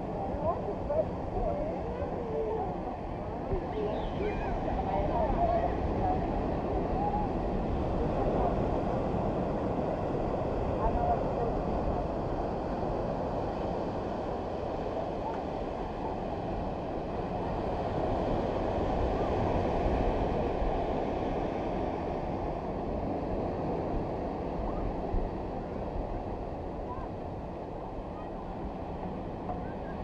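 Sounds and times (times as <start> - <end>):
ocean surf washing: 0.0 - 30.0
wind on microphone: 0.0 - 30.0.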